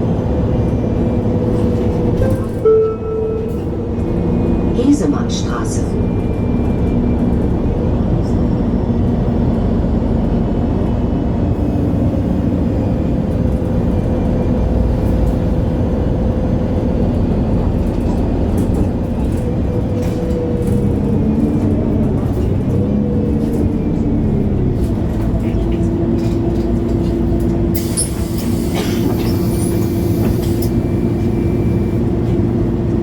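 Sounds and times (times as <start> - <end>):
bus diesel engine drone: 0.0 - 33.0.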